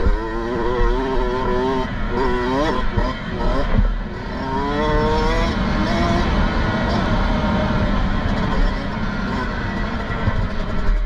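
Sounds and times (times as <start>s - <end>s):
two-stroke engine revving high: 0.0s - 11.0s.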